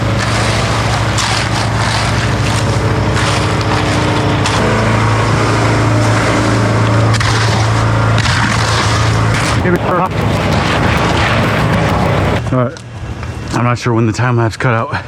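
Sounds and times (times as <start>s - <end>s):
engine running steadily: 0.0s - 12.4s
rough scraping: 0.0s - 12.4s.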